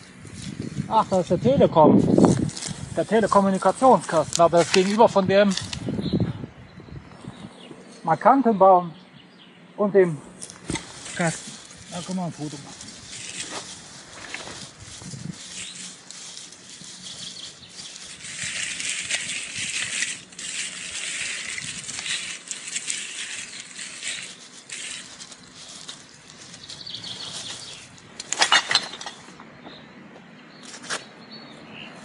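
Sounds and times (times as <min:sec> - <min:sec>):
close rustling and crackling: 0:00.0 - 0:06.0, 0:10.0 - 0:29.8.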